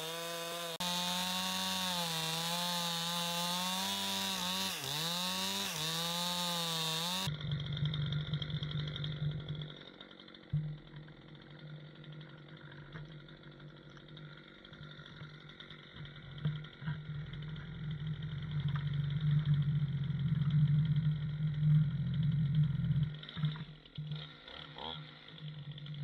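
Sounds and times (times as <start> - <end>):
chainsaw cutting log: 0.0 - 26.0
chainsaw running: 0.0 - 26.0.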